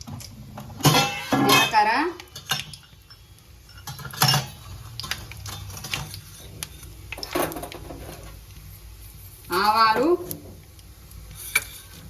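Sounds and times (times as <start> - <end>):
seeds crackling in hot oil: 0.0 - 12.0.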